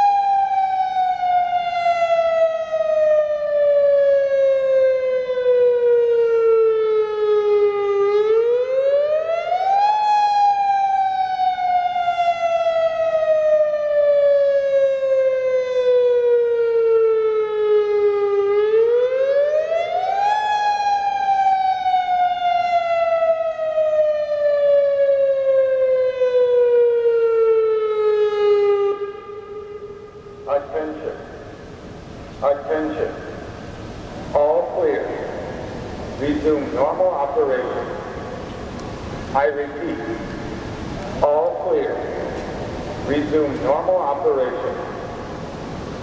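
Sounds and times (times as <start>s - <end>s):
warning siren wailing: 0.0s - 46.0s.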